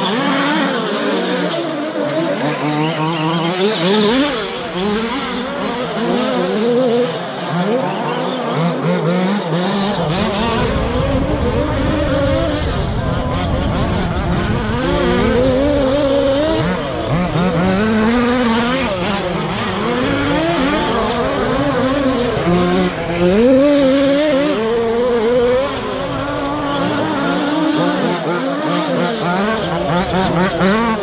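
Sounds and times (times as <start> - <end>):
rc truck motors revving: 0.0 - 31.0.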